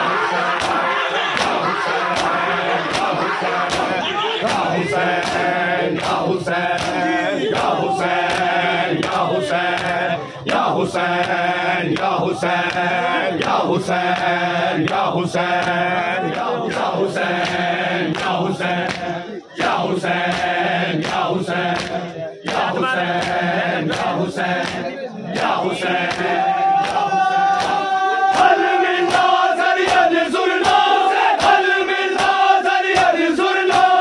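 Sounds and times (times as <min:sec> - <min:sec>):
men chanting a lament: 0:00.0 - 0:34.0
hands slapping bare chests: 0:00.4 - 0:24.8, 0:25.4 - 0:34.0.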